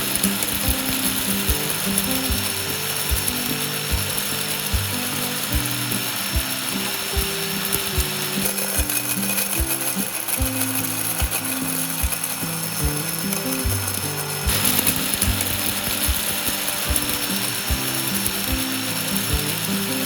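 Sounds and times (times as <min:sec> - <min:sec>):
background music with thumping beat: 0:00.0 - 0:19.8
steady high hiss: 0:00.0 - 0:20.0.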